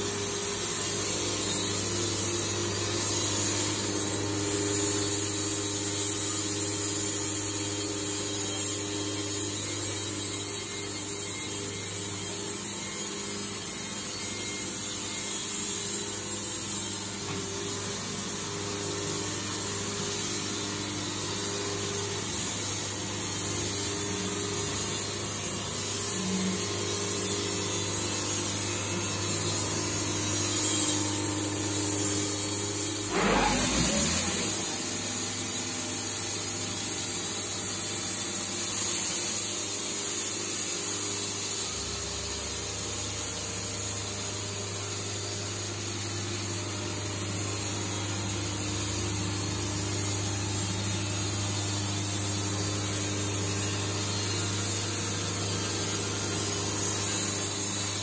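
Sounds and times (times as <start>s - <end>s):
sawmill hum and hiss: 0.0s - 58.0s.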